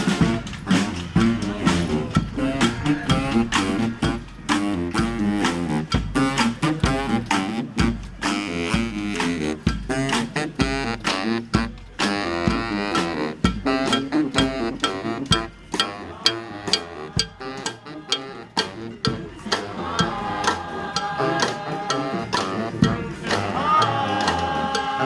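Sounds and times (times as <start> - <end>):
brass band playing: 0.0 - 25.0
steady drumbeat: 0.0 - 25.0.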